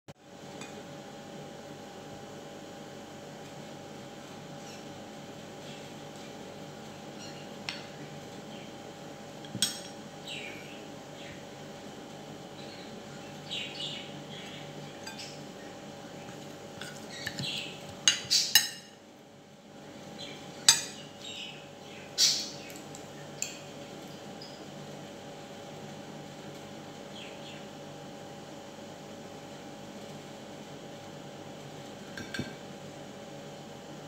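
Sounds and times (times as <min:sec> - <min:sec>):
faint steady hum: 0:00.1 - 0:34.0.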